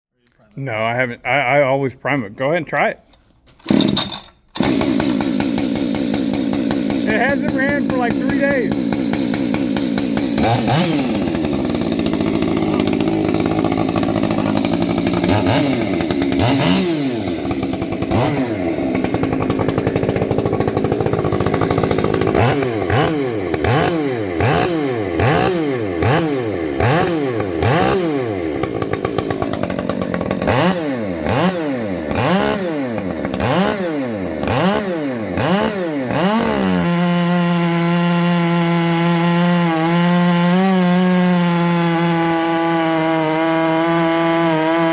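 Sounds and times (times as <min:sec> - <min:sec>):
chainsaw engine revving: 0:03.7 - 0:44.9.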